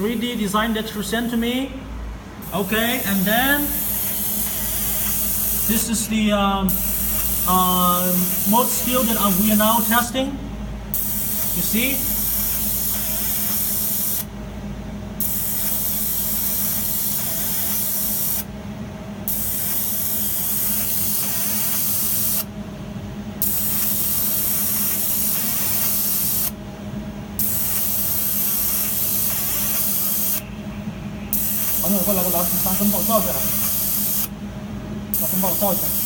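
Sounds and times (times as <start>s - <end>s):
laser engraver hissing: 0.0s - 1.4s, 2.4s - 10.3s, 10.9s - 14.3s, 15.2s - 18.5s, 19.2s - 22.5s, 23.4s - 26.6s, 27.3s - 34.4s, 35.1s - 36.0s
low machine hum: 0.0s - 36.0s.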